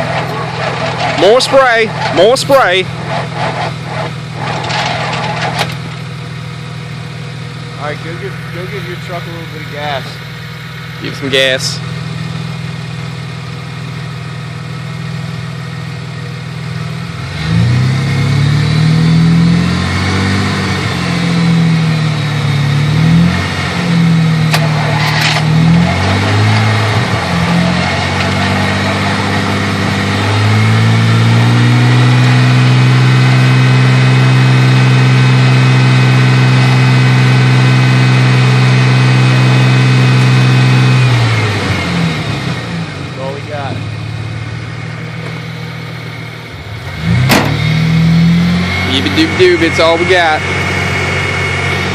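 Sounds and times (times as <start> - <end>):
truck engine revving: 0.0 - 14.9, 16.6 - 51.9.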